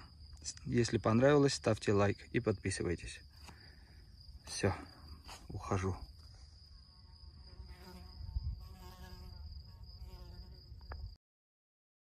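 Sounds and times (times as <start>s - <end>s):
insect buzzing: 0.0s - 2.3s, 3.1s - 11.2s
cricket-like trill: 0.0s - 11.2s.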